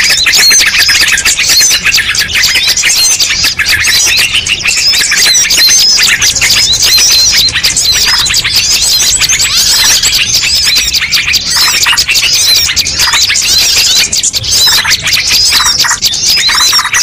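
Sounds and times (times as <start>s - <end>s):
chorus of small birds chirping: 0.0s - 17.0s.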